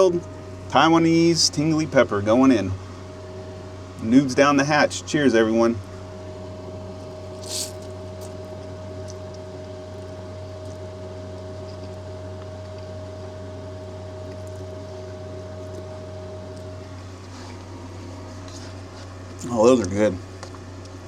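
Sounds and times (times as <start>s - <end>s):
truck machinery humming: 0.0s - 20.6s.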